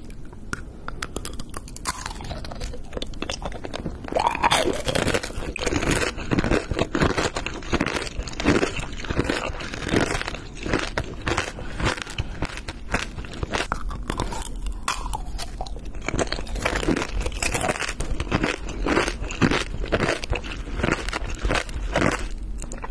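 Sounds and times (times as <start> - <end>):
crunching and chewing candy: 0.0 - 22.9.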